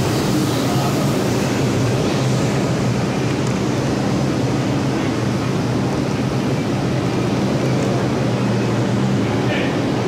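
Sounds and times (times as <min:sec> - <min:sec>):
subway train rumble and hum: 0:00.0 - 0:10.0.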